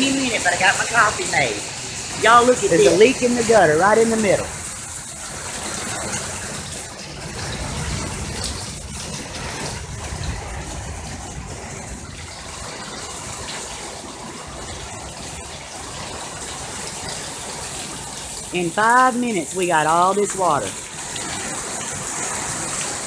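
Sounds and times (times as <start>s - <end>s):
heavy rain pouring: 0.0s - 23.0s
water gushing from gutter: 0.0s - 23.0s.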